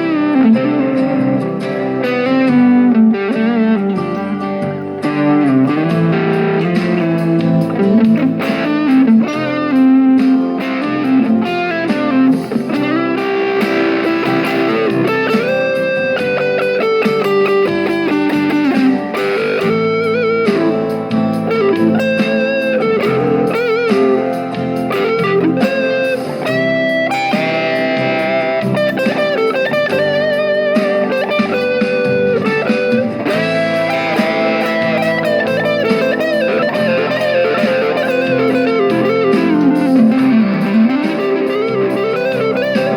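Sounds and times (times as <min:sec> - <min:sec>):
blues-rock electric guitar: 0:00.0 - 0:42.9.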